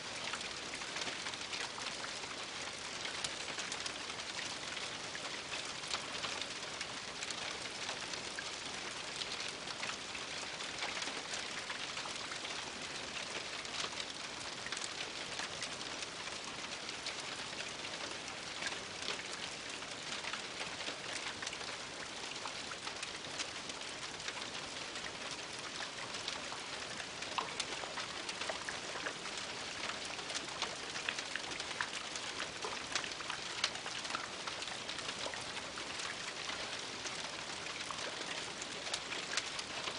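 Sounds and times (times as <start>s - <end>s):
rain on a roof: 0.0s - 39.9s
raindrops ticking: 0.1s - 39.9s.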